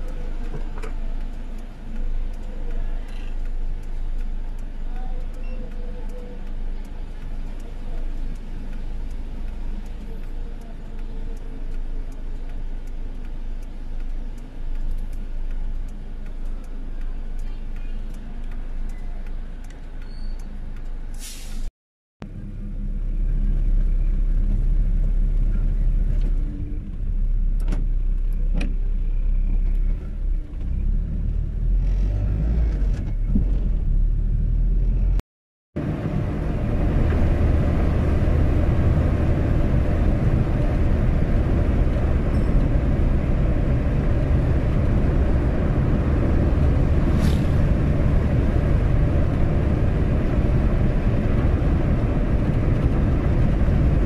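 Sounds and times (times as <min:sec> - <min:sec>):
car engine and tyre noise inside cabin: 0:00.0 - 0:21.2, 0:22.2 - 0:35.2, 0:35.8 - 0:54.0.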